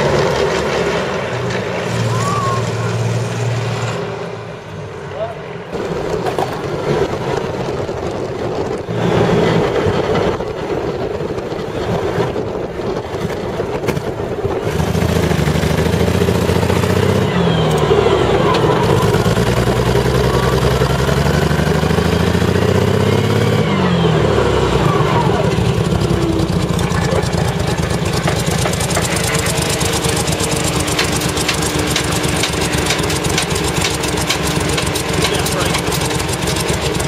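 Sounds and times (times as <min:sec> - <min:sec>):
misfiring engine revving: 0:05.7 - 0:37.0.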